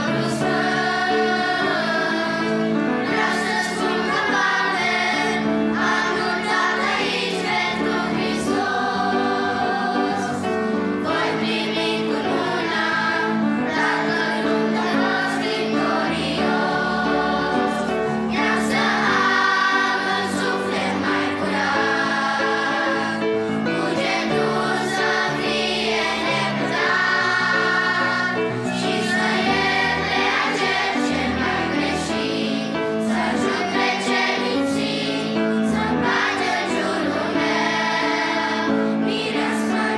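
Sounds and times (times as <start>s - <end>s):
children's choir singing a hymn: 0.0s - 39.9s
piano accompaniment: 0.0s - 39.9s.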